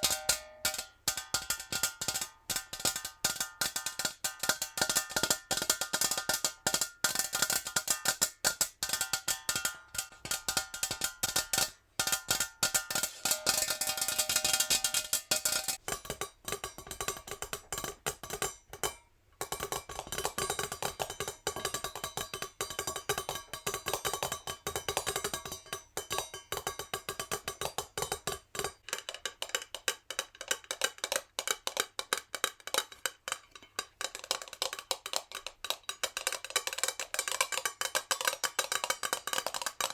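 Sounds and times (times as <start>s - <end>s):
fingernails tapping on metal jar: 0.0s - 39.9s.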